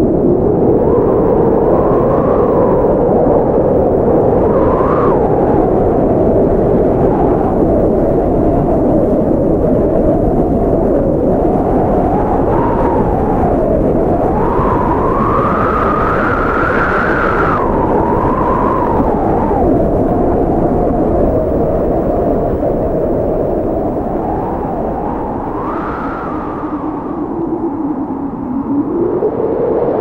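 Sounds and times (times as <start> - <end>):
blizzard wind blowing: 0.0 - 30.0.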